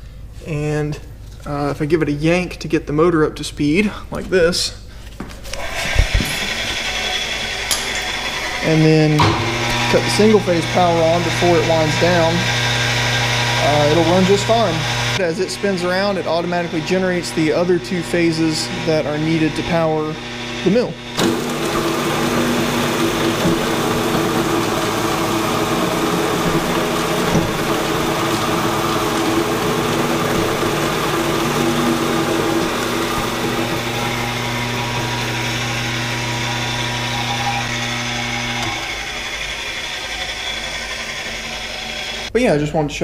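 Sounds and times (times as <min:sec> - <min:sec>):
electric motor hum and whir: 0:05.4 - 0:42.3.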